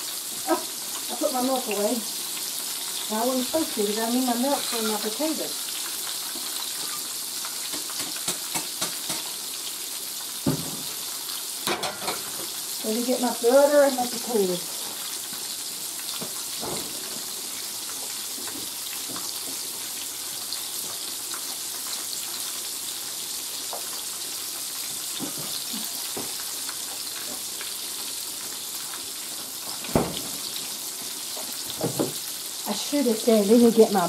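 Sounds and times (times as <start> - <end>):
food sizzling in a skillet: 0.0 - 34.0.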